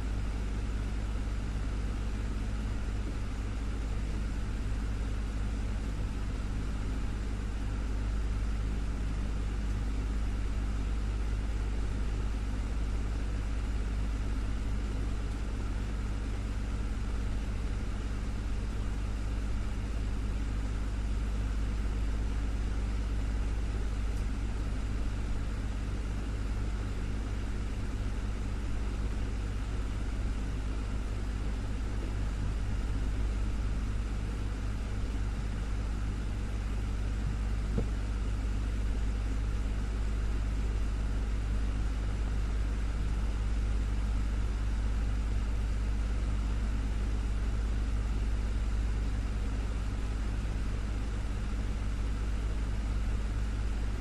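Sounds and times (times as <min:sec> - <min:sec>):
desktop fan running: 0:00.0 - 0:54.0.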